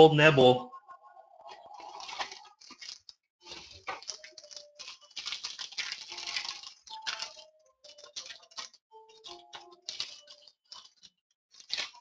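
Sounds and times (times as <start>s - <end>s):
trading cards shuffling and rustling: 1.5s - 12.0s.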